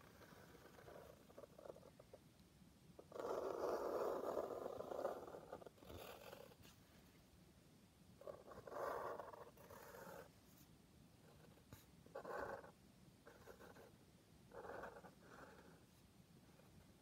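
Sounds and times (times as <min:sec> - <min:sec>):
marker pen drawing on paper: 0:00.0 - 0:02.2, 0:03.0 - 0:06.8, 0:08.2 - 0:17.0.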